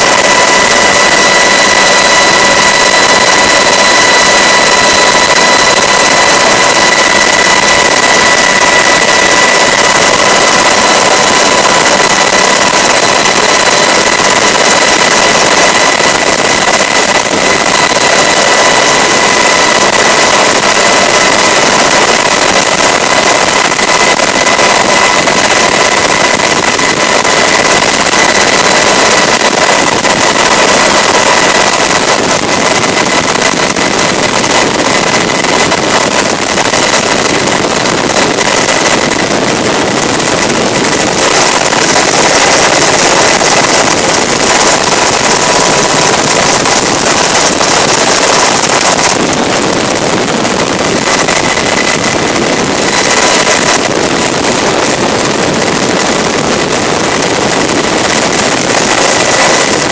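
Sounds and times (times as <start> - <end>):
helicopter cabin noise: 0.0 - 59.9
high whining tones: 0.0 - 59.9.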